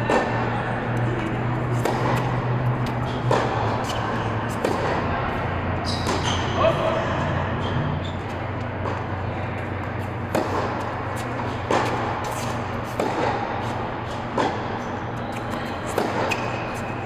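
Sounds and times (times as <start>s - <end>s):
racket hitting tennis ball: 0.0s - 17.0s
steady low hum: 0.0s - 17.0s.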